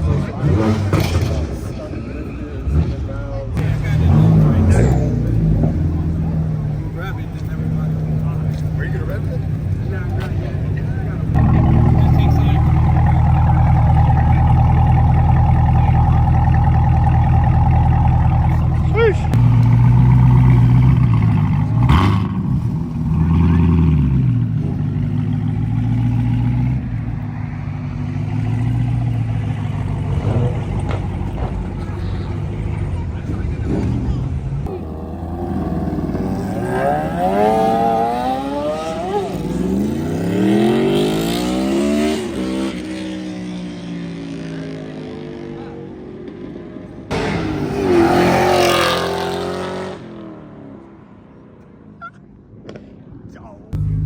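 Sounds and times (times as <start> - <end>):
car engine droning: 0.0 - 42.9, 45.6 - 54.0.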